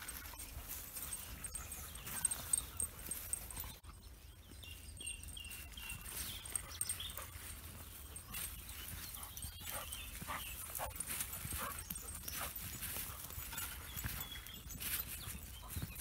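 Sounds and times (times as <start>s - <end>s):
footsteps through grass: 0.0s - 16.0s.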